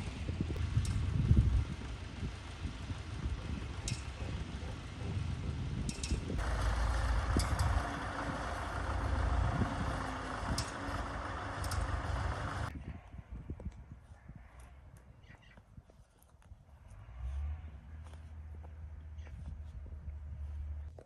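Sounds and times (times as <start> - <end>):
engine running with low rumble: 0.0 - 12.7, 16.7 - 21.0.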